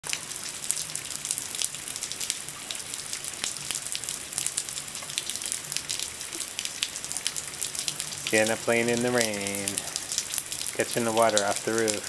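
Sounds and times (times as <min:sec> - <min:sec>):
steady rain hiss: 0:00.0 - 0:12.0
water dripping off roof edge: 0:00.0 - 0:12.0.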